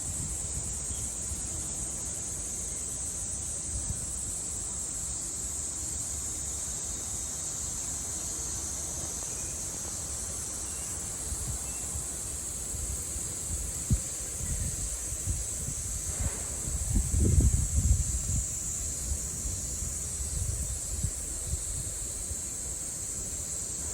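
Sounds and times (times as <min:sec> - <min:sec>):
cicadas droning: 0:00.0 - 0:23.9.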